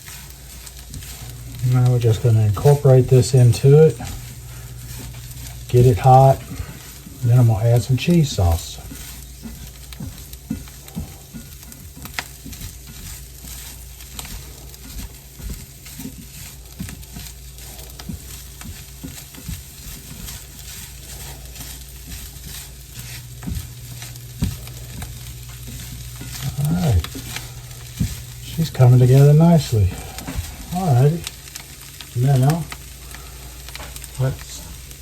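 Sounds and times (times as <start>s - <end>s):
food sizzling in a skillet: 0.0s - 35.0s
utensil scraping a pan: 0.0s - 35.0s.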